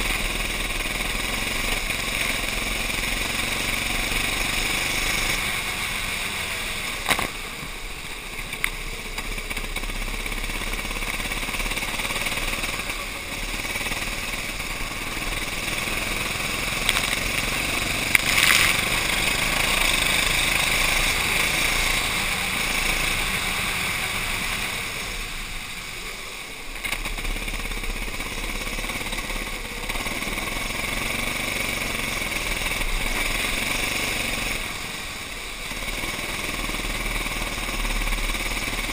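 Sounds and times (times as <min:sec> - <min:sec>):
kart engine under throttle: 0:00.0 - 0:38.9.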